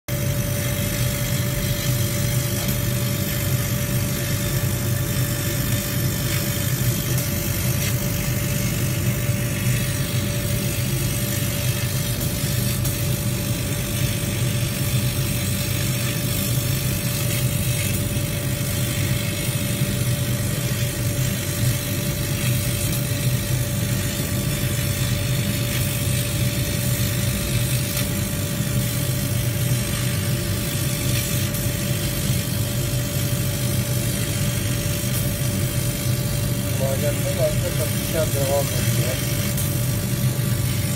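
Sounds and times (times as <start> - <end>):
laser cutter humming: 0.1 - 40.9.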